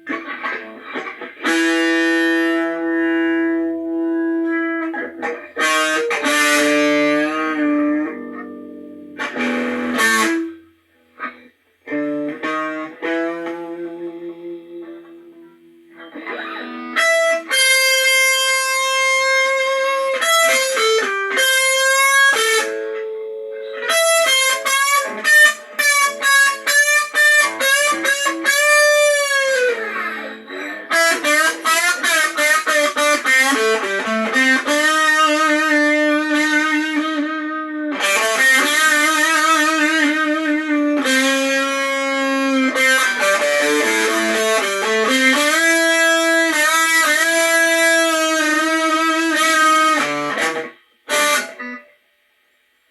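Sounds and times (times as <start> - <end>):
distorted electric guitar blues: 0.0 - 52.2.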